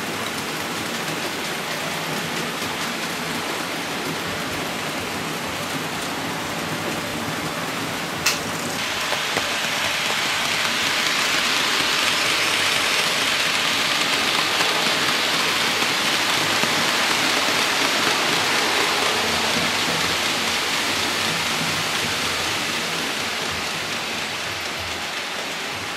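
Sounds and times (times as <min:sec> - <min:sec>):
model train wheels on rails: 0:00.0 - 0:25.9.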